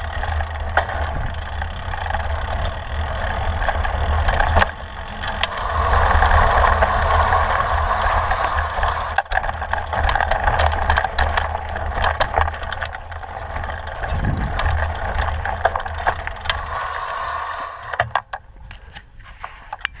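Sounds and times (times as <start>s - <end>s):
low rumble: 0.0s - 18.0s
bike clicks and rattles: 0.0s - 20.0s
bike tyres on gravel: 0.0s - 20.0s.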